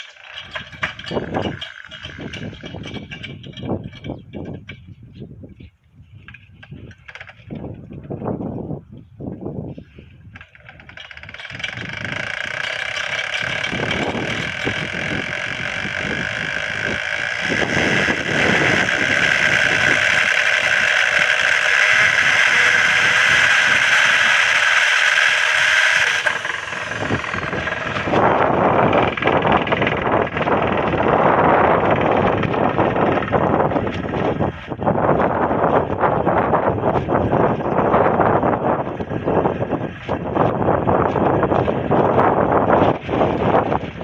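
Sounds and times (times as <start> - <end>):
rotor spinning with high whine: 0.0 - 4.2, 10.4 - 44.0.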